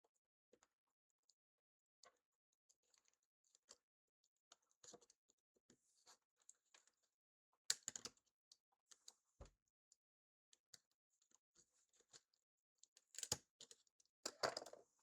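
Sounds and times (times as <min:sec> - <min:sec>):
small clicks and scrapes of parts: 0:02.0 - 0:09.8, 0:10.5 - 0:15.0.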